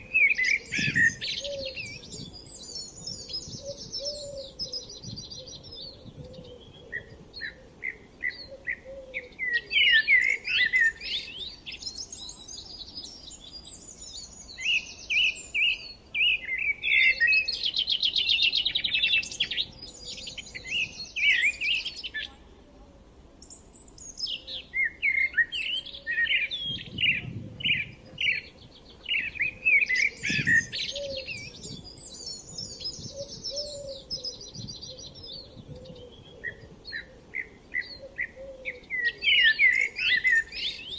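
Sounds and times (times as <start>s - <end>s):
songbirds chirping and singing: 0.0s - 22.6s, 23.4s - 40.9s.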